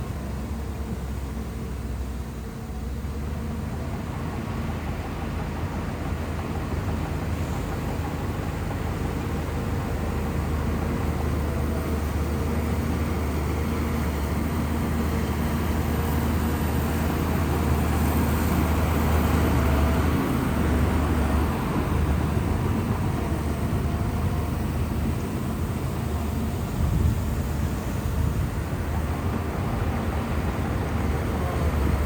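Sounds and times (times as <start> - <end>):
bulldozer diesel engine rumbling: 0.0 - 32.0.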